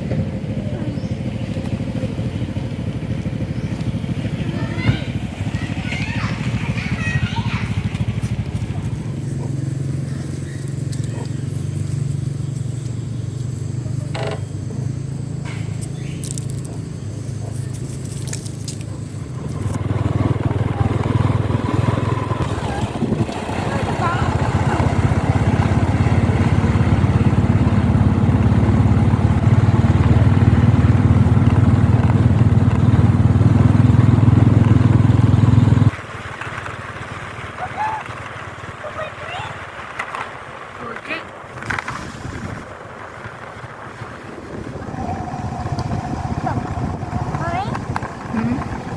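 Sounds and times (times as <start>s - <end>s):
motorbike engine droning: 0.0s - 48.9s.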